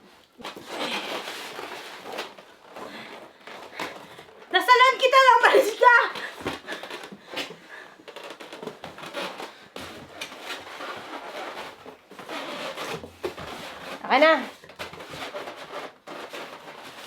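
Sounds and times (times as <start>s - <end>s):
rustling while unpacking: 0.0s - 17.0s.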